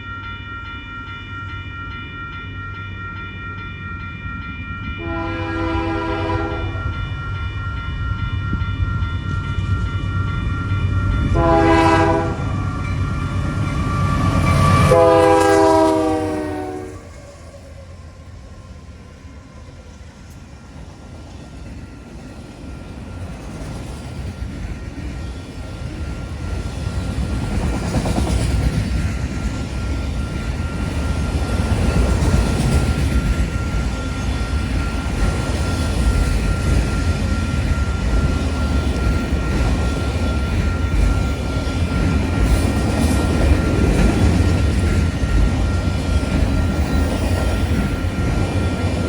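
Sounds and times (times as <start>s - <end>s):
train rumble: 1.9s - 49.0s.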